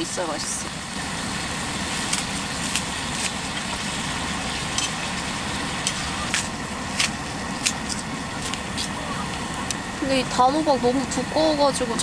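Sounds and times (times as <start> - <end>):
steak sizzling on a griddle: 0.0 - 12.0.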